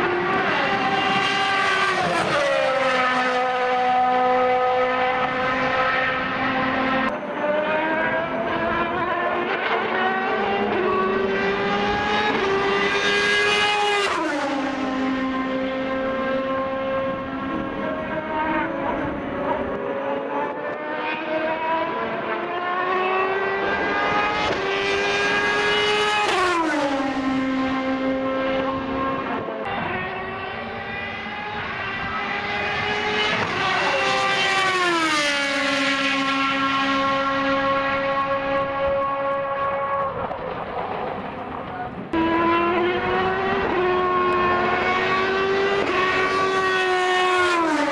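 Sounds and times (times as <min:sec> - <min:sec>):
race car engine passing at high revs: 0:00.0 - 0:47.9.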